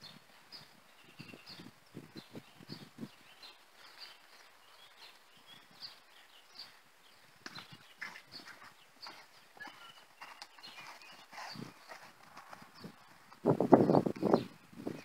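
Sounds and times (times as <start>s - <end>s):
hooves thudding on sand: 0.0s - 15.0s
small birds chirping: 0.0s - 15.0s.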